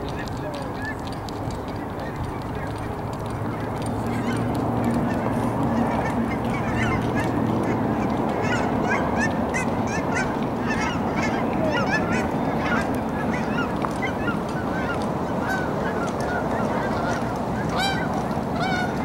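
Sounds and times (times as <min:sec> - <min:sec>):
flock of birds calling: 0:00.0 - 0:19.0.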